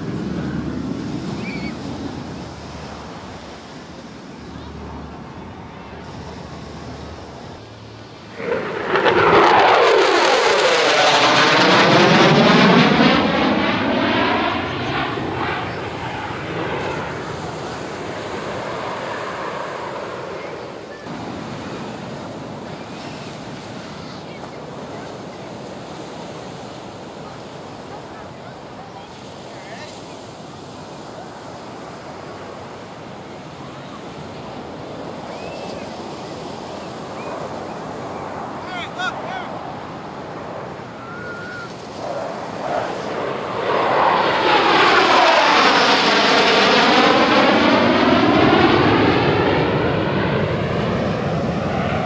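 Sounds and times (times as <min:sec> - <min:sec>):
jet flying low overhead: 0:00.0 - 0:52.0.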